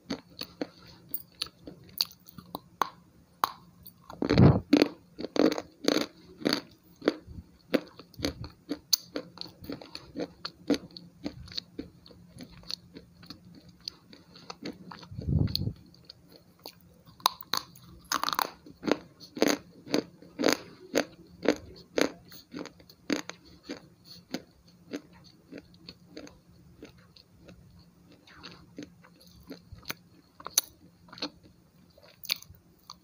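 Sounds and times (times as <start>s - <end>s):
chewing: 0.0s - 2.7s, 3.4s - 33.0s.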